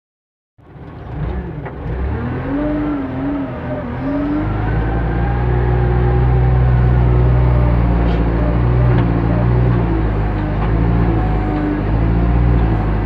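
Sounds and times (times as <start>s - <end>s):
diesel engine revving: 0.6s - 13.0s
hydraulics whining: 0.6s - 13.0s.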